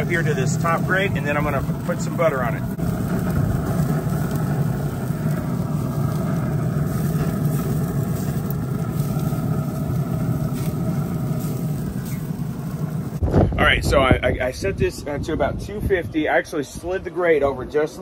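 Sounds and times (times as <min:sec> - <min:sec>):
pellet grill fan rumbling: 0:00.0 - 0:18.0.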